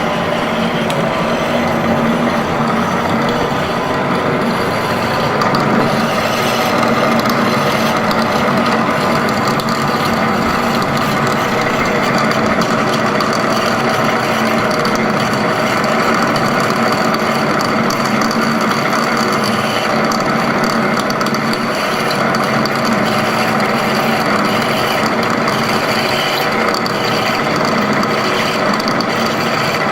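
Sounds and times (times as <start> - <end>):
metal lathe clattering: 0.0 - 29.9.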